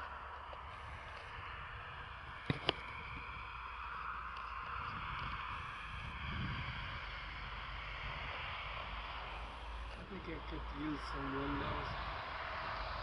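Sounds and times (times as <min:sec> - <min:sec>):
soft wind hiss: 0:00.0 - 0:13.0
wind rumble on microphone: 0:00.0 - 0:13.0.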